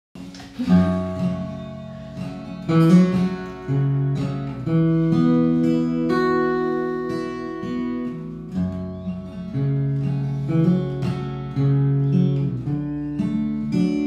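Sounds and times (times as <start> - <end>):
acoustic guitar chords: 0.2 - 14.0
small acoustic string instrument: 0.2 - 14.0.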